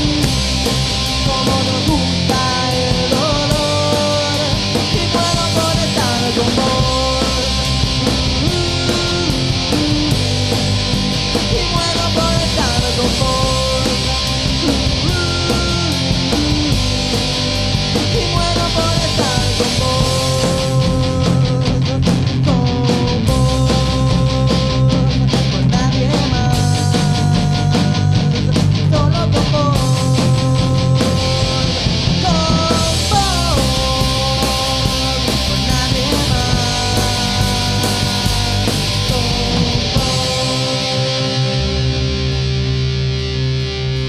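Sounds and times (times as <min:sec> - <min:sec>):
sliding lead guitar notes: 0:00.0 - 0:25.8, 0:29.5 - 0:44.0
drum beat: 0:00.0 - 0:41.6
distorted electric guitars: 0:00.0 - 0:44.0
instrumental rock music: 0:00.0 - 0:44.0.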